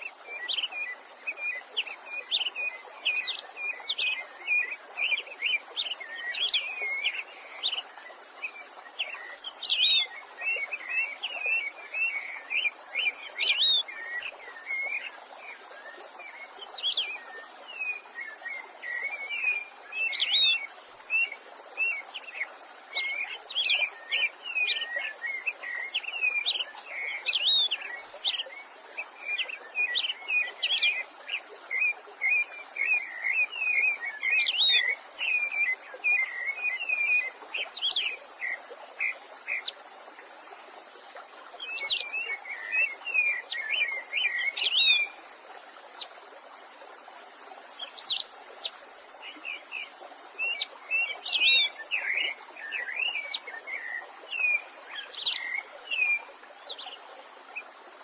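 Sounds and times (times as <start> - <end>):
songbird twittering: 0.0 - 39.8, 41.6 - 45.3, 47.8 - 56.9
stream running: 0.0 - 58.0.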